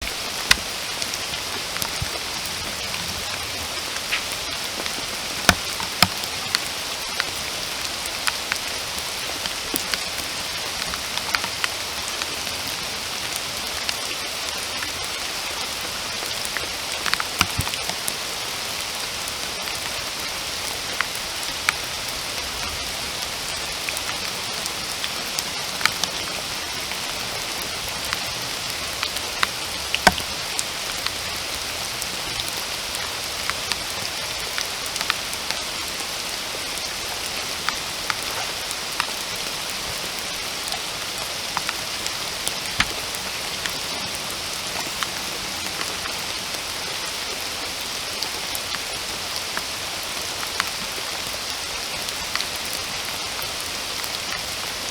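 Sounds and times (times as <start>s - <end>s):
raindrops tapping close by: 0.0s - 54.8s
steady rain hiss: 0.0s - 54.9s.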